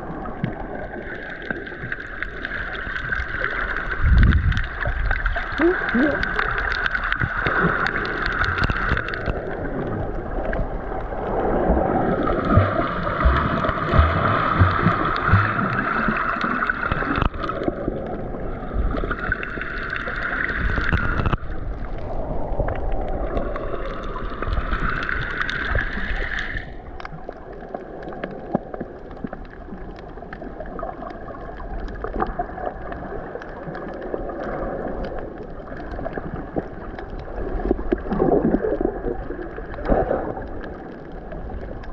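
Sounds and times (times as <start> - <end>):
rushing water: 0.0 - 41.9
underwater rumble and bubbling: 0.0 - 41.9.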